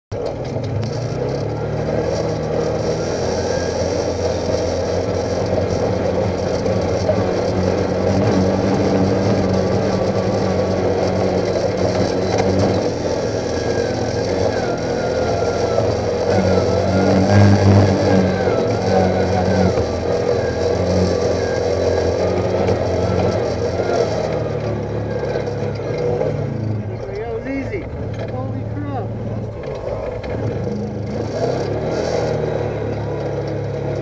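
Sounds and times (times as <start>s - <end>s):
tyres over rock and gravel: 0.1s - 34.0s
utility vehicle engine running: 0.1s - 34.0s.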